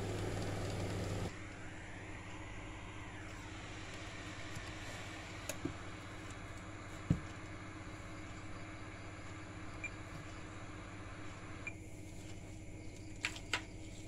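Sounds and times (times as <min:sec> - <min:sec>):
low electrical hum with hiss: 0:00.0 - 0:14.0.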